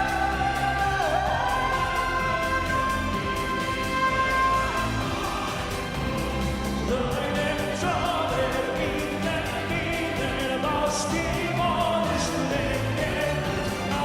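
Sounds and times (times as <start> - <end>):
man singing with vibrato: 0.0 - 14.0
orchestral accompaniment: 0.0 - 14.0.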